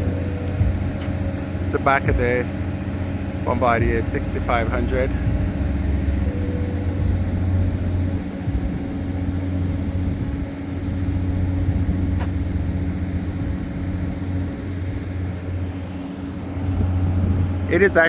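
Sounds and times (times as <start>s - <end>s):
low machine drone: 0.0s - 18.0s.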